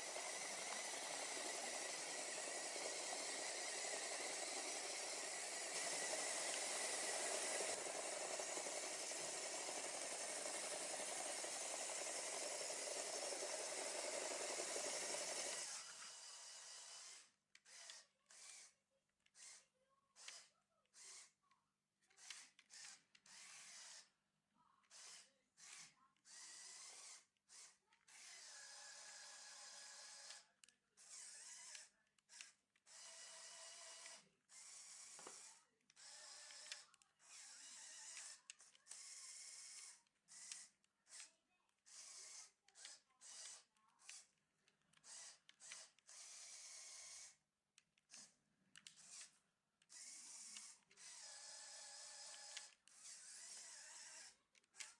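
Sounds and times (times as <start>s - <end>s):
small electric motors whirring: 0.0s - 21.4s, 22.0s - 24.2s, 24.8s - 47.4s, 48.0s - 54.9s.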